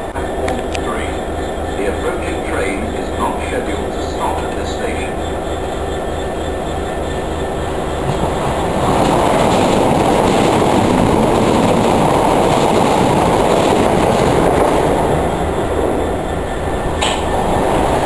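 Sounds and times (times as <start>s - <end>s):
passenger train passing at speed: 0.0s - 18.0s.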